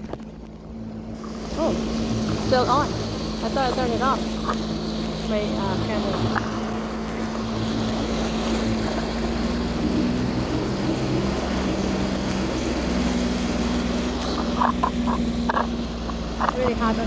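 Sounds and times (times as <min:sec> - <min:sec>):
jet ski engine running: 0:00.0 - 0:17.0
water rushing hiss: 0:01.1 - 0:17.0.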